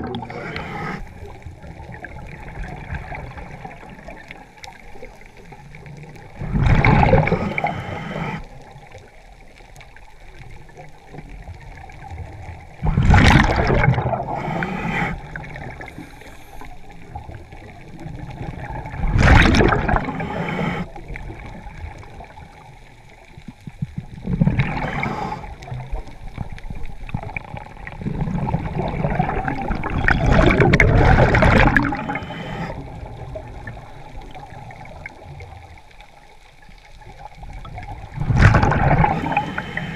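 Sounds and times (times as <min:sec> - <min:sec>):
regulator exhaust bubbles underwater: 0:00.0 - 0:39.9.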